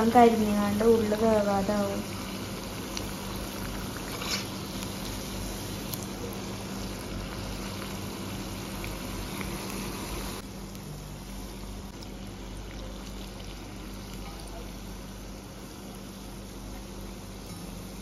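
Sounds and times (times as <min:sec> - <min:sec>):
deep-frying sizzling and bubbling: 0:00.0 - 0:18.0.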